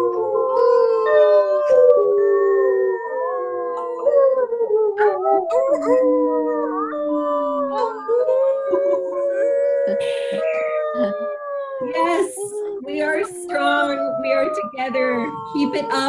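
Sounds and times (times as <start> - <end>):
people howling like wolves: 0.0 - 16.0.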